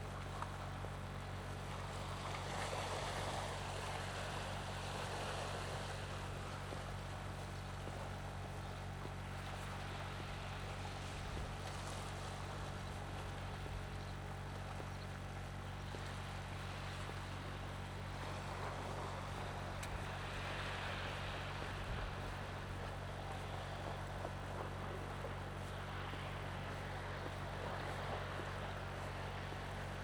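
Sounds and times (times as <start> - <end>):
low engine drone: 0.0 - 30.0.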